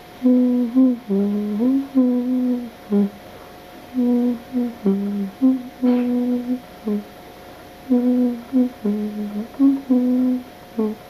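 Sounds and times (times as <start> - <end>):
slow humming melody of low notes: 0.0 - 11.0.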